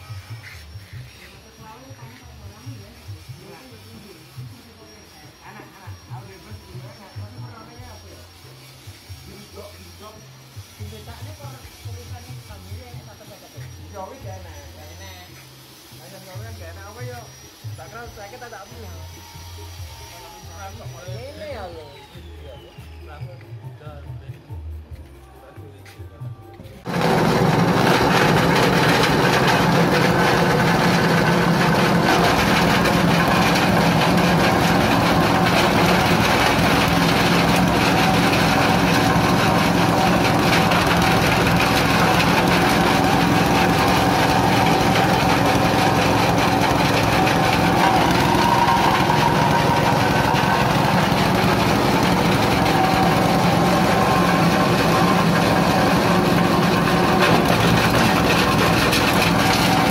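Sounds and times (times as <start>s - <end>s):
husk grinding machine running: 0.0s - 23.0s, 26.8s - 59.9s.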